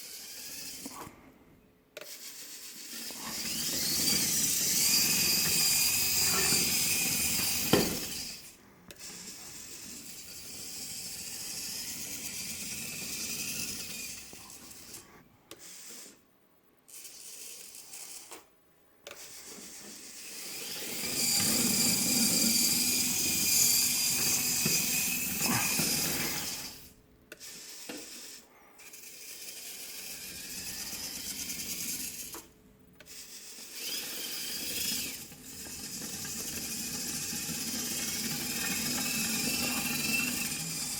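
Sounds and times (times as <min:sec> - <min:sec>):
servo motors and gears whining: 0:00.0 - 0:01.1, 0:02.0 - 0:16.2, 0:19.1 - 0:40.9.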